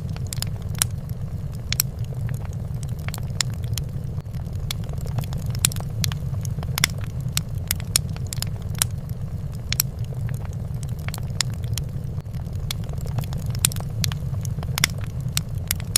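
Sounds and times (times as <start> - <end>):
fireplace fire crackling: 0.0 - 15.9
low rumble: 0.0 - 15.9.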